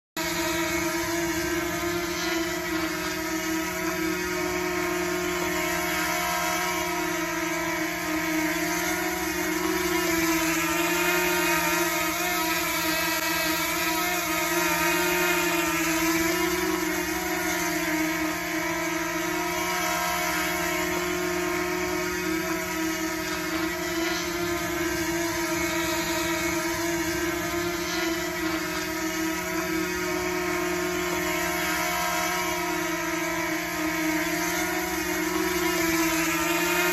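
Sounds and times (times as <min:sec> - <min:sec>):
drone buzzing whine: 0:00.0 - 0:36.9.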